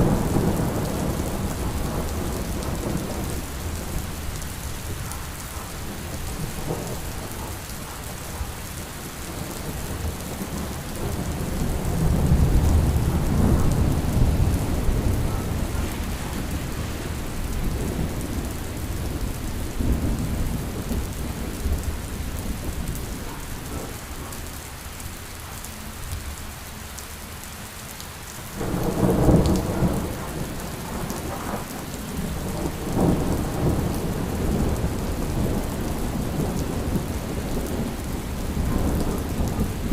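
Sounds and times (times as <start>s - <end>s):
thunder rumbling: 0.0s - 24.3s, 28.6s - 39.9s
steady rain: 0.0s - 39.9s.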